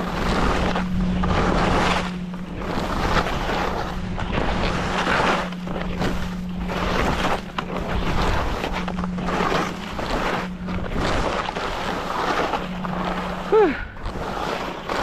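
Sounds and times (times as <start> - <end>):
wind buffeting microphone: 0.0 - 14.9
skis scraping over snow: 0.0 - 15.0.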